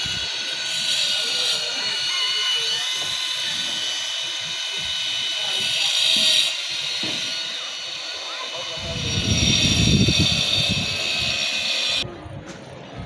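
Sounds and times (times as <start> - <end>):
angle grinder cutting stone: 0.0 - 12.0.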